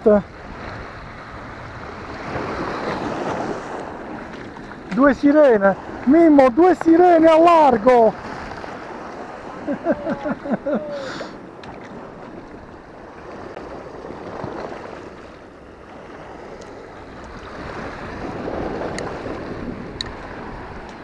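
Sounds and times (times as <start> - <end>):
waves breaking on rocky shore: 0.0 - 21.0
wind buffeting microphone: 0.0 - 21.0.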